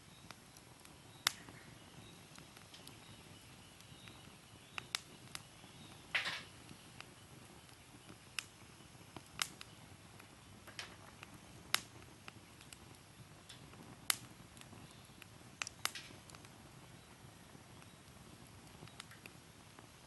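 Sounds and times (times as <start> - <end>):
campfire crackles and pops: 0.0 - 20.0
campfire hissing: 0.0 - 20.0.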